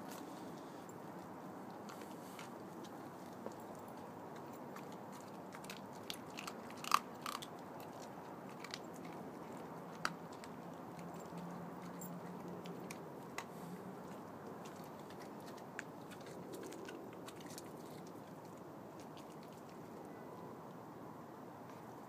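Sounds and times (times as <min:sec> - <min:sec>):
dog crunching bone: 0:01.7 - 0:20.0.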